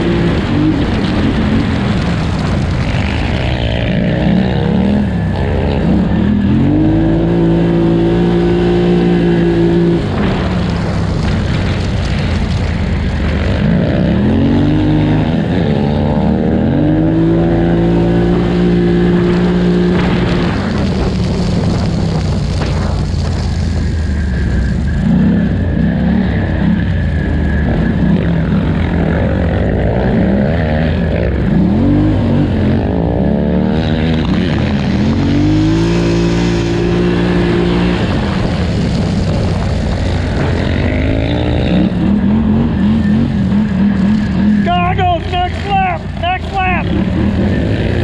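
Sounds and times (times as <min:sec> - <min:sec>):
atv engine racing: 0:00.0 - 0:48.0.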